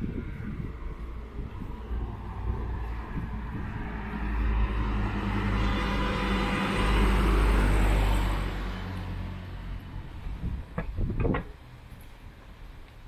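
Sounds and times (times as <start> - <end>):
car passing: 0.0 - 10.9.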